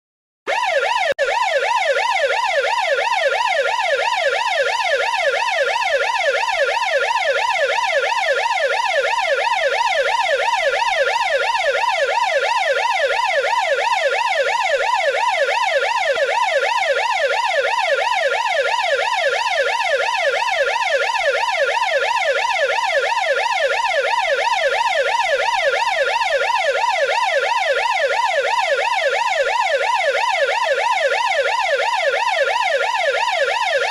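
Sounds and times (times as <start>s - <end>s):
police siren yelping: 0.5s - 33.9s.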